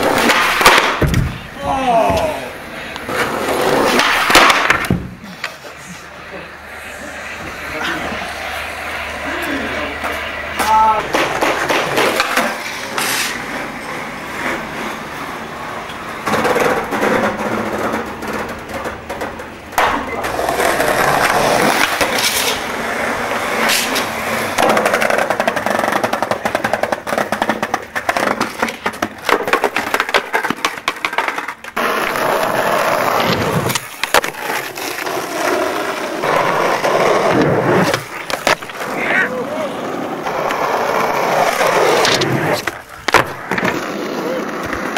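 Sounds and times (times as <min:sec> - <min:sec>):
skateboard popping and landing: 0:00.0 - 0:05.8, 0:09.9 - 0:15.1, 0:15.8 - 0:44.9
skateboard wheels rolling: 0:00.0 - 0:44.9.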